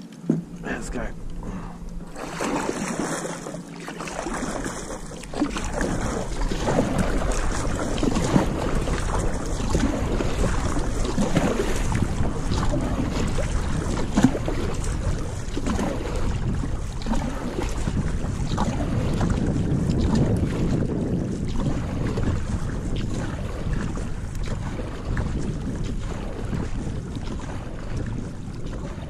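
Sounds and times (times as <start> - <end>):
water splashing along kayak hull: 0.0 - 29.0
wind buffeting microphone: 4.1 - 29.0.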